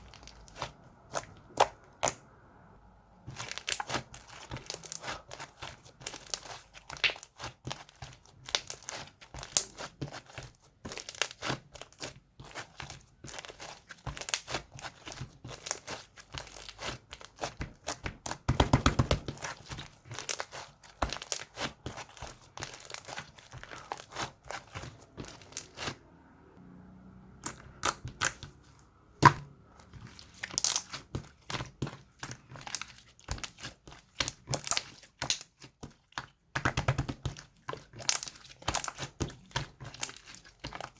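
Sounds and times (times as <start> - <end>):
slime crinkling and crackling: 0.0 - 2.2, 3.3 - 26.0, 27.4 - 40.9.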